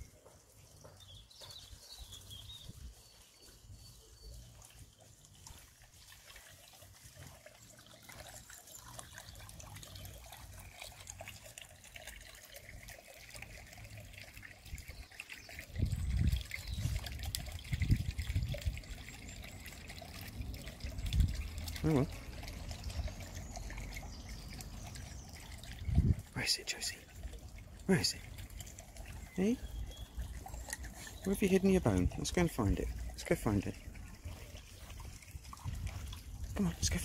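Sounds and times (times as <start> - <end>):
faint water trickle: 0.0 - 37.0.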